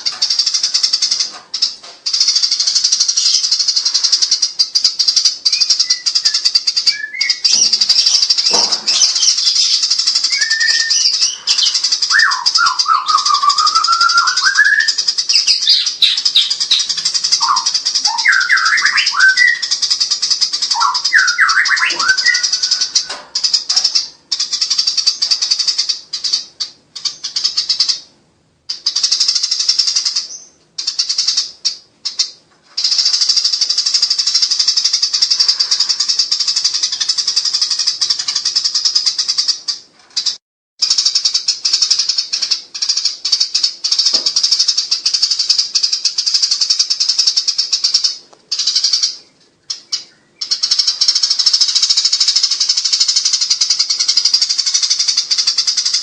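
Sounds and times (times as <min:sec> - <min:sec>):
sparrows chattering: 0:00.0 - 0:56.0.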